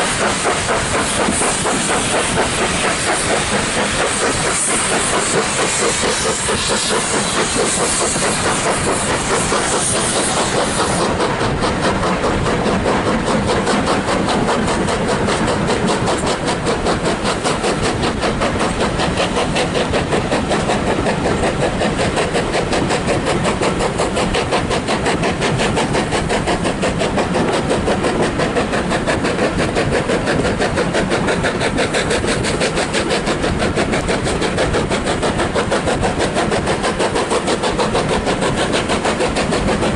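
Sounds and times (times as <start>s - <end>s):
steam hissing: 0.0s - 39.9s
steam locomotive running: 0.0s - 39.9s.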